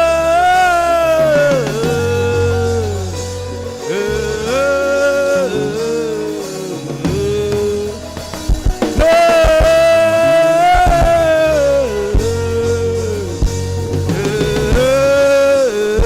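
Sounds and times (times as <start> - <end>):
bass line: 0.0 - 16.0
drum hits: 0.0 - 16.0.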